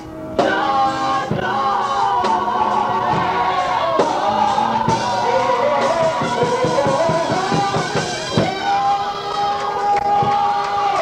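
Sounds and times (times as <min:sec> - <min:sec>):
musical accompaniment: 0:00.0 - 0:11.0
fast rhythmic beats: 0:00.4 - 0:11.0
woman singing gospel: 0:00.4 - 0:11.0.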